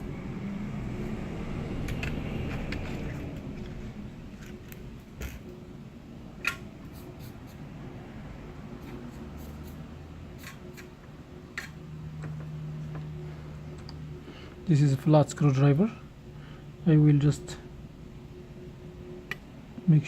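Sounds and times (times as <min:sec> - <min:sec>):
faint equipment hum: 0:00.0 - 0:20.0.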